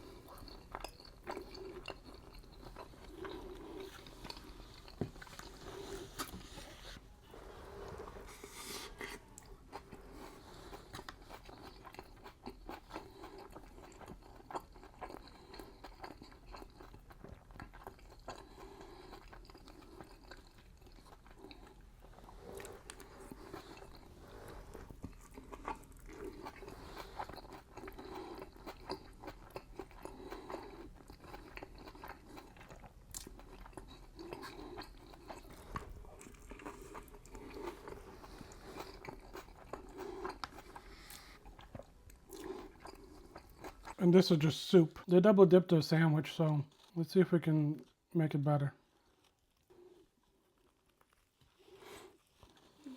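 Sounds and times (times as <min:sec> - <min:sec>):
person chewing fried chicken: 0:00.0 - 0:44.0, 0:48.8 - 0:52.9.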